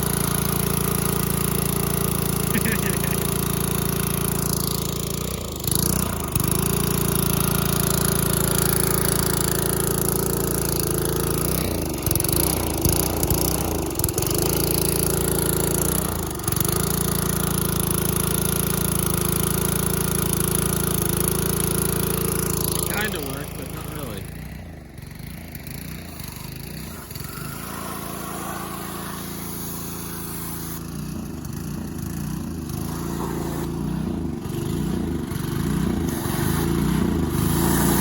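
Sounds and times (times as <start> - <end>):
pressure washer engine running: 0.0 - 38.0.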